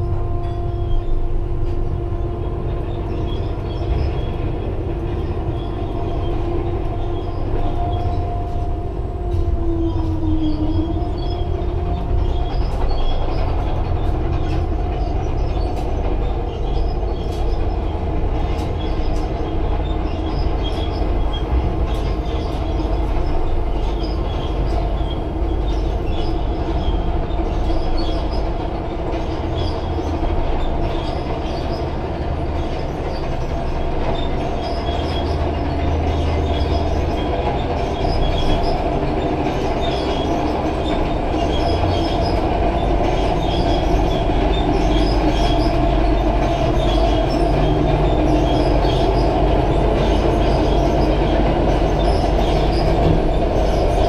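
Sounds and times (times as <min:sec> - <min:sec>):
crane machinery drone: 0:00.0 - 0:54.0.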